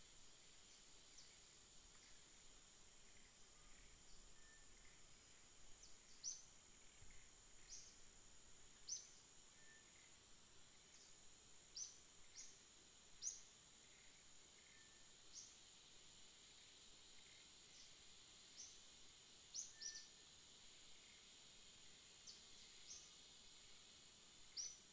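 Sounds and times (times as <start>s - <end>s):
high-pitched insect drone: 0.4s - 15.6s, 16.2s - 24.9s.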